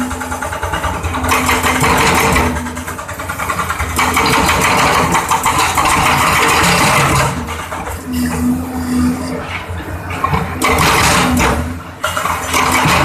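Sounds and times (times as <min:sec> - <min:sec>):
diesel engine running: 0:00.0 - 0:13.0
hydraulic breaker hammering concrete: 0:00.0 - 0:13.0.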